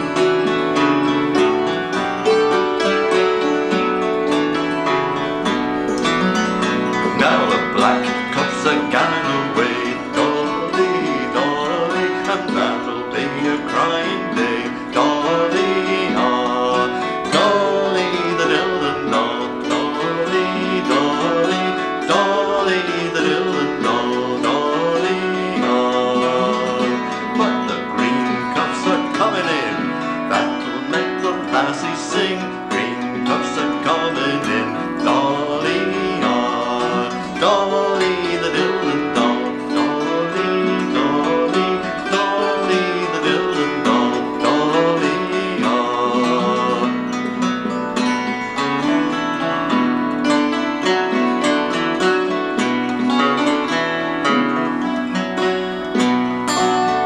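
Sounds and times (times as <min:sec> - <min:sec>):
hammered dulcimer: 0:00.0 - 0:57.0
strummed acoustic guitar: 0:00.0 - 0:57.0
man singing: 0:06.0 - 0:57.0.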